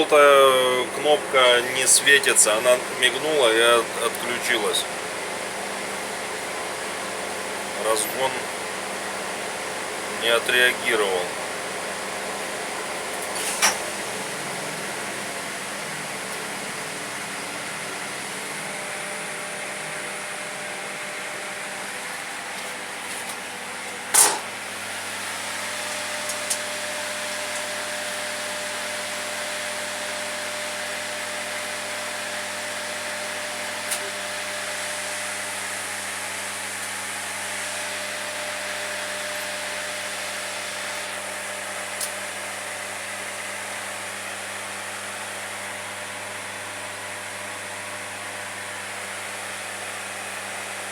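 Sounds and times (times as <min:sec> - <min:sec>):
mechanical whir with hum: 0:00.0 - 0:50.9.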